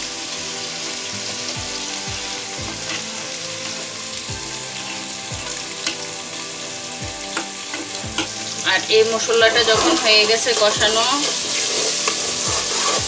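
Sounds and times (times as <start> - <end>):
paste sizzling in a pot: 0.0 - 13.0.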